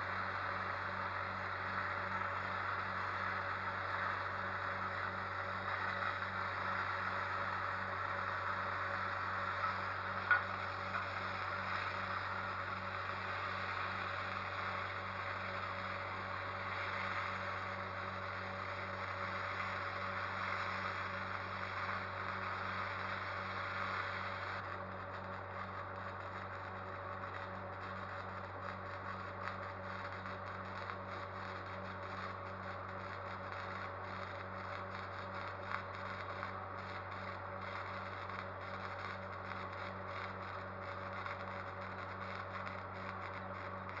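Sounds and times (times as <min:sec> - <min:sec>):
machine hum with hiss: 0:00.0 - 0:44.0.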